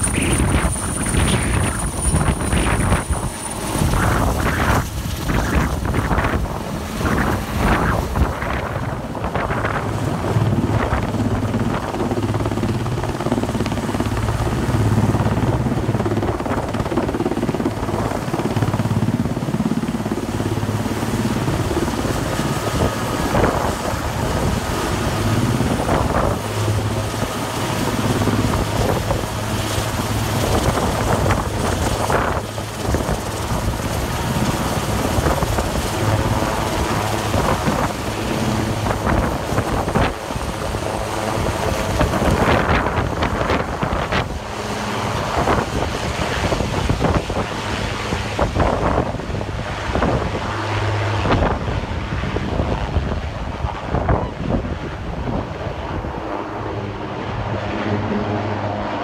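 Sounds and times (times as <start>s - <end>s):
helicopter rotor and turbines: 0.0s - 59.0s.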